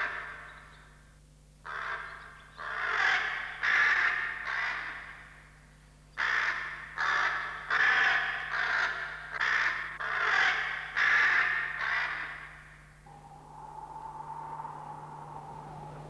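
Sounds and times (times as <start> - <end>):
crows cawing: 1.6 - 5.4, 6.2 - 16.0.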